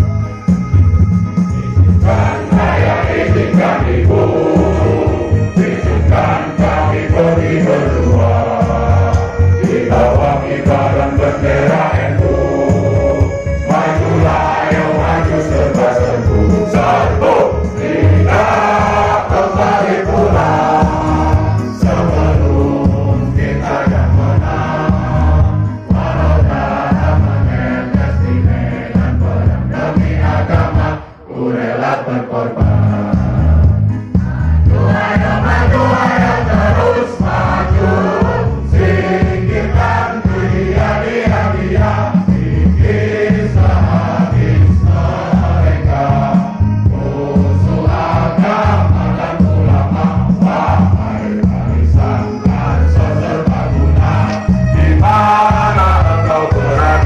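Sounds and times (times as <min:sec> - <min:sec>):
pulsing low accompaniment: 0:00.0 - 0:31.1, 0:32.6 - 0:57.0
choir singing: 0:02.0 - 0:57.0.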